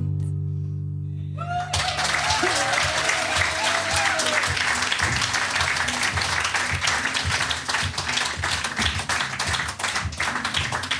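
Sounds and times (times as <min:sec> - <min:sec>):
audience applause: 0:01.4 - 0:10.9.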